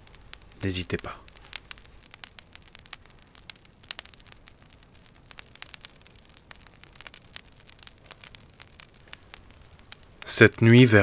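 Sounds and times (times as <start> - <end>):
fire pops and snaps: 0.0 - 11.0
soft steady hiss: 0.0 - 11.0
wood fire crackling: 0.0 - 11.0.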